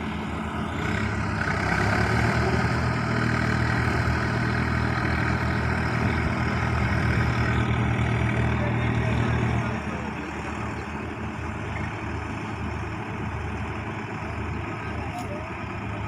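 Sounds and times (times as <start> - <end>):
tractor engine revving: 0.0 - 16.0.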